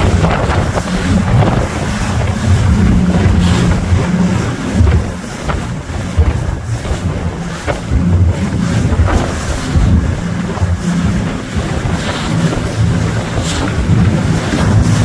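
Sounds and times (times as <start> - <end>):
speedboat engine running: 0.0 - 15.0
water splashing along hull: 0.0 - 15.0
wind buffeting microphone: 0.0 - 15.0.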